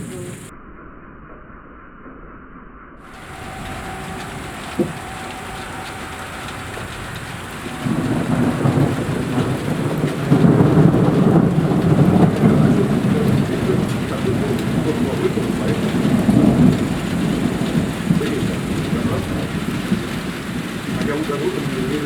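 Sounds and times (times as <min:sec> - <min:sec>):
heavy rain: 0:00.0 - 0:00.5, 0:03.1 - 0:22.0
rolling thunder: 0:00.0 - 0:00.5, 0:03.1 - 0:22.0.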